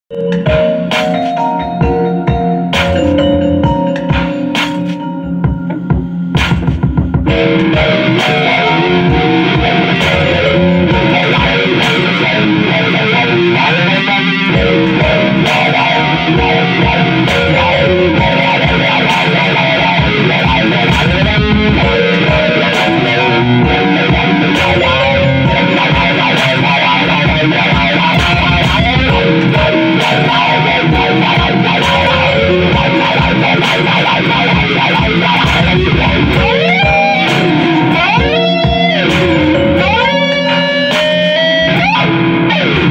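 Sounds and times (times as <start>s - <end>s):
electric guitar melody: 0.1s - 42.9s
hip-hop beat: 0.1s - 42.9s.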